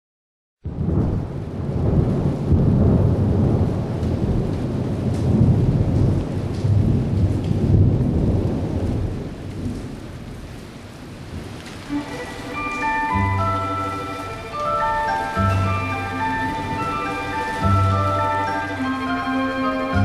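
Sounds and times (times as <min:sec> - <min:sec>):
rolling thunder: 0:00.6 - 0:20.0
steady rain: 0:00.6 - 0:20.0.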